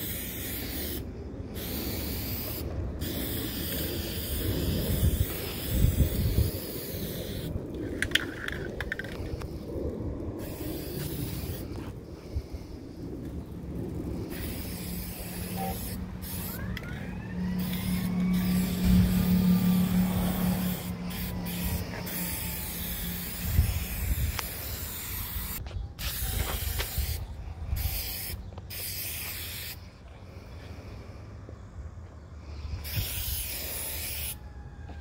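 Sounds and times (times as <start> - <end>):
spray paint can hissing: 0.0 - 9.7, 10.4 - 13.0, 14.1 - 29.8, 32.8 - 34.4
aircraft drone overhead: 0.0 - 35.0.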